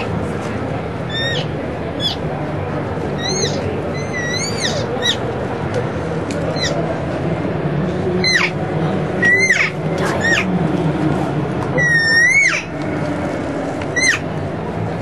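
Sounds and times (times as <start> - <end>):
steady hum of a hall: 0.0 - 15.0.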